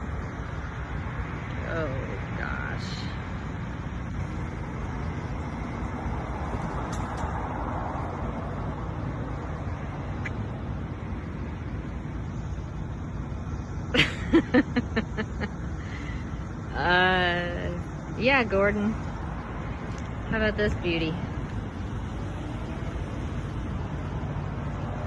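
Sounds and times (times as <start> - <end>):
motor vehicle running: 0.0 - 25.0.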